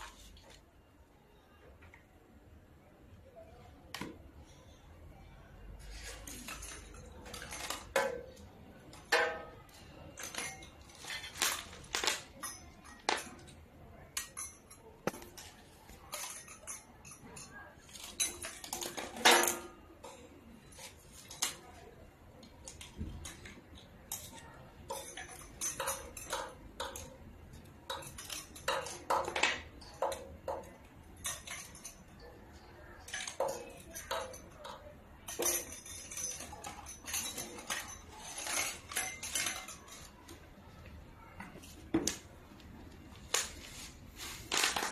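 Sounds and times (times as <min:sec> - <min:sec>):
small metal fittings clinking: 0:05.8 - 0:42.3.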